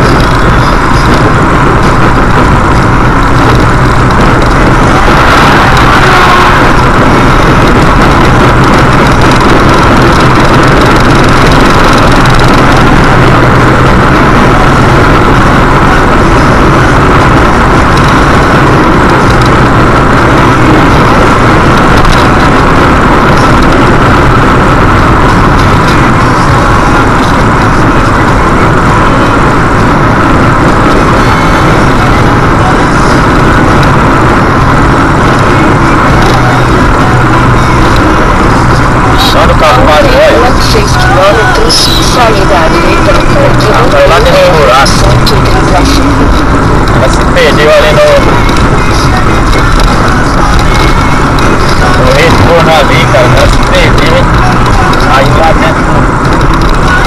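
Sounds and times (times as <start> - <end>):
car driving at highway speed: 0.0 - 57.0.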